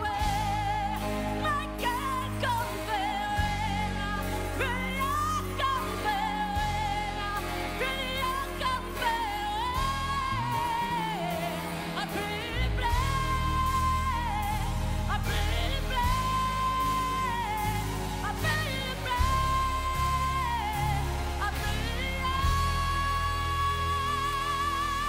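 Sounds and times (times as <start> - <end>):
live band with bass line: 0.0 - 25.0
woman singing with vibrato: 0.0 - 25.0.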